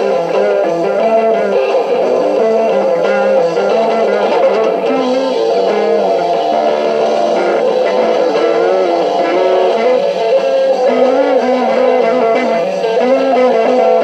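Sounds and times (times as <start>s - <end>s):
bass line: 0.0s - 14.0s
electric guitar rock instrumental: 0.0s - 14.0s.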